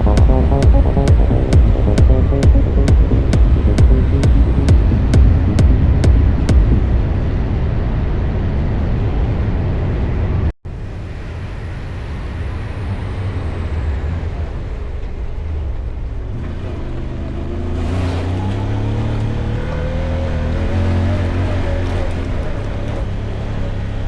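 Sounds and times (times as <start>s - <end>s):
off-road buggy engine rumble: 0.0s - 7.6s, 12.2s - 24.0s.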